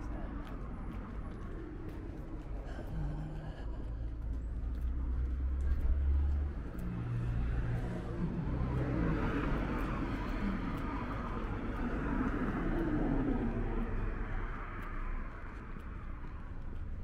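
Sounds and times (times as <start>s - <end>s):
cars passing: 0.0s - 17.0s
low vehicle rumble: 0.0s - 17.0s.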